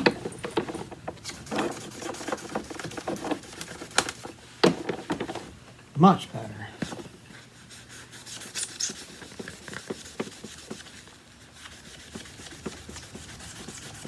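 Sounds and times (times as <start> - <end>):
scratchy hand rubbing: 0.0 - 4.9, 6.8 - 14.0.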